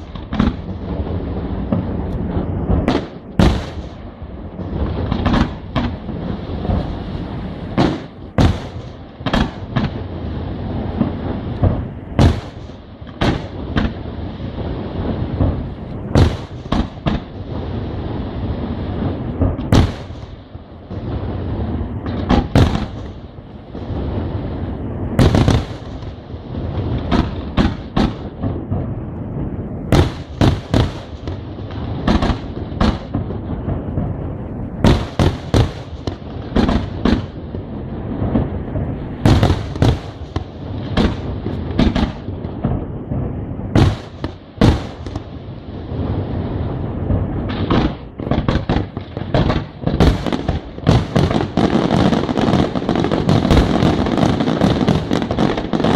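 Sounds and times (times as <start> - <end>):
fireworks bursting with bangs: 0.0 - 55.9
rumbling roll of explosions: 0.0 - 55.9.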